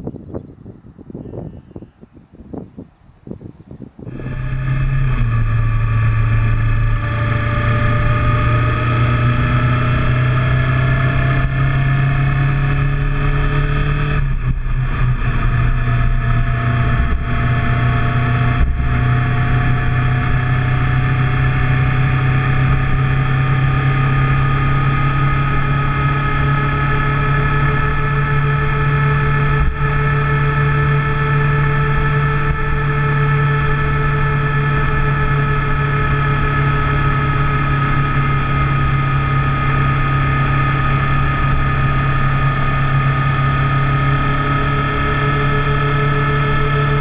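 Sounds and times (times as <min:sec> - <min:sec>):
motorcycle engine accelerating: 0:03.9 - 0:47.0.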